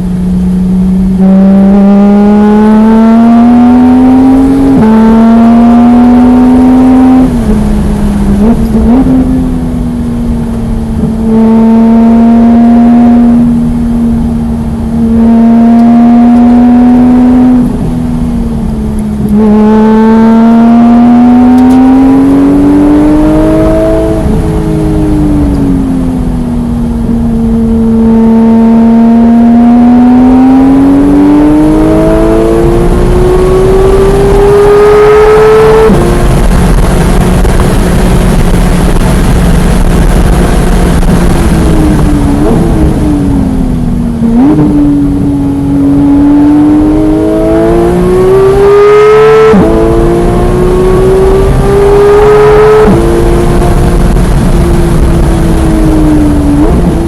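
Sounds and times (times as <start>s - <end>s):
car engine at full throttle: 0.0s - 57.0s.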